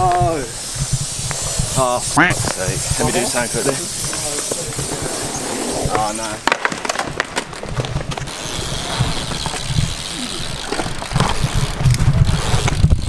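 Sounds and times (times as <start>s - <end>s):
wind rumbling on microphone: 0.0s - 6.4s, 7.0s - 13.0s
bike tyres rolling on concrete: 0.0s - 13.0s.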